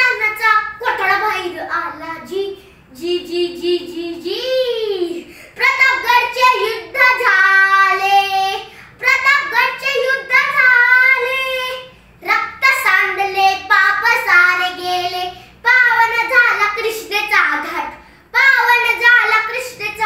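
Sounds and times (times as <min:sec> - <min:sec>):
boy singing unaccompanied: 0:00.0 - 0:20.0.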